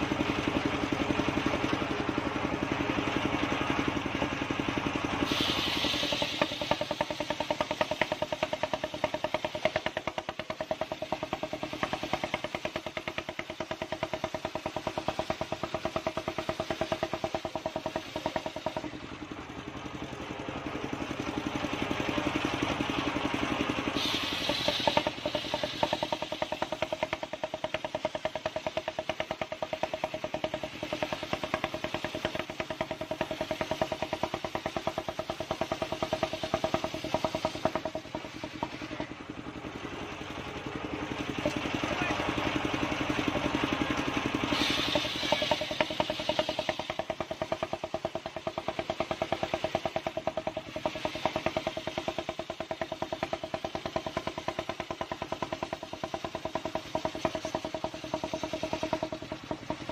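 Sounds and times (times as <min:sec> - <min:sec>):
sawmill engine pulsing: 0:00.0 - 0:59.9.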